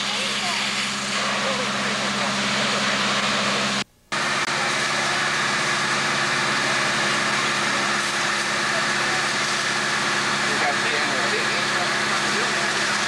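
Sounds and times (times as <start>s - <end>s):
engine hum: 0.0s - 13.0s
hoses spraying water hiss: 0.0s - 13.0s.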